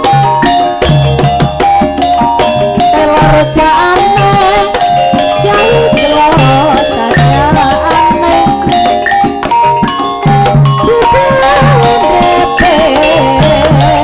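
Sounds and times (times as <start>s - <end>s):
hand drums beating: 0.0s - 14.0s
ringing metallic percussion: 0.0s - 14.0s
wavering high melody: 0.0s - 14.0s.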